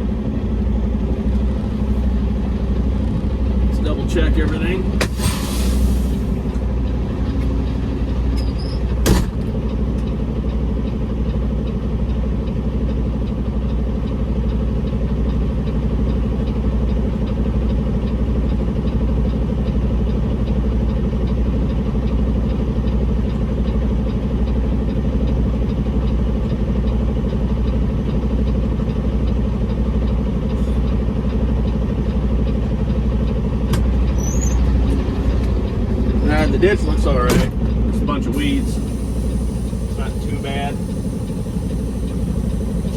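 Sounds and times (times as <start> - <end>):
truck diesel engine idling: 0.0 - 42.9.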